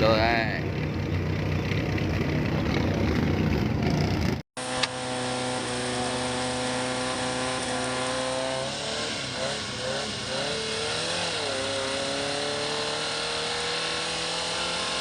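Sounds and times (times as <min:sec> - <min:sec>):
engine running at steady speed: 0:00.0 - 0:15.0
off-road vehicle engine running rough: 0:00.0 - 0:15.0.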